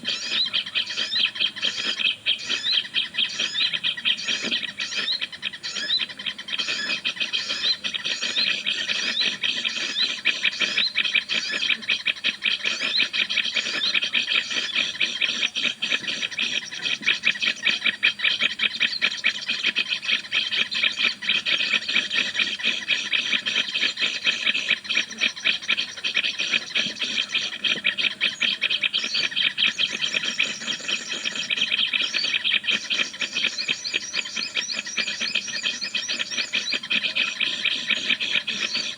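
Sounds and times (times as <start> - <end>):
rapid high-pitched bird chirping: 0.0 - 38.9.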